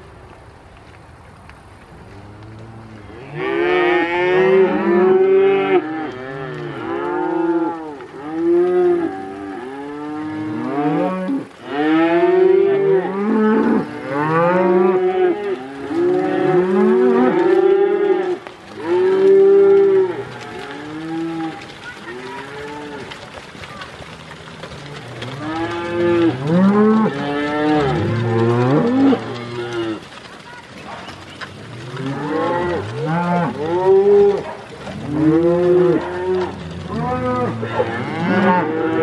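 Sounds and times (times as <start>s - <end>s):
cows mooing: 2.2s - 39.0s.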